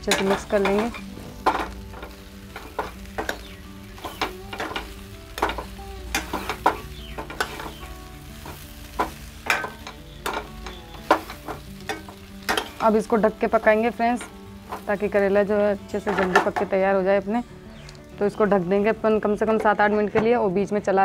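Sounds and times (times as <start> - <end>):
vegetables sizzling in oil: 0.0 - 19.8.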